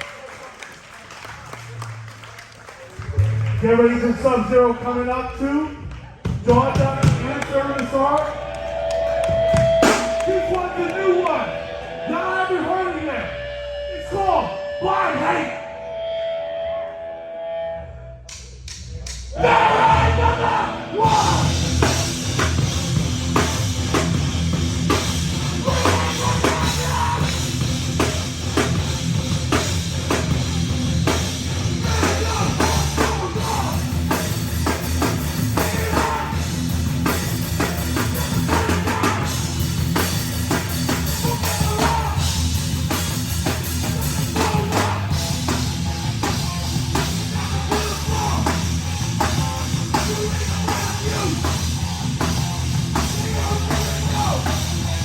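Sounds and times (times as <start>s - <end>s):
heavy rock band playing: 6.6s - 17.7s, 19.4s - 55.0s.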